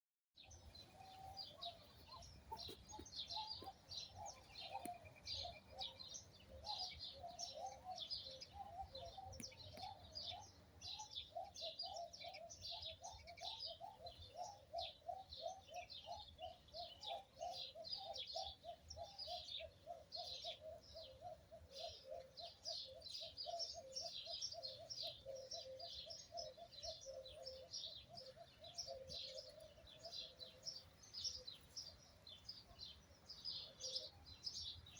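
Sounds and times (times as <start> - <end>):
low repeated bird call: 0.4 - 34.9
small birds chirping: 0.4 - 34.9.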